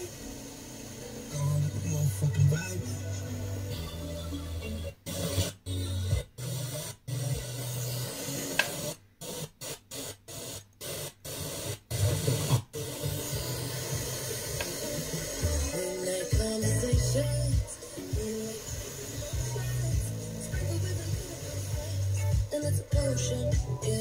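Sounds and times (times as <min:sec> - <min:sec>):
faint distant radio station: 0:00.0 - 0:09.0, 0:11.4 - 0:24.0
radio static hiss: 0:00.0 - 0:24.0.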